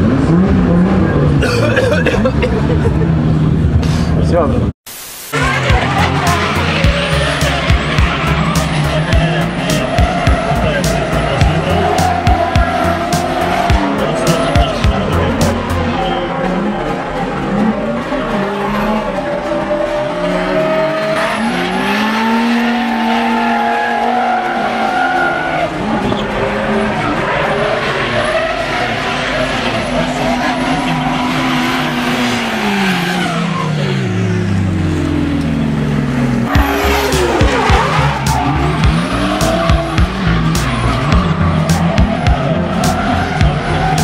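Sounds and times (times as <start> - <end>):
car engines revving hard: 0.0 - 4.7, 5.4 - 44.0
tyres squealing and skidding: 5.3 - 44.0.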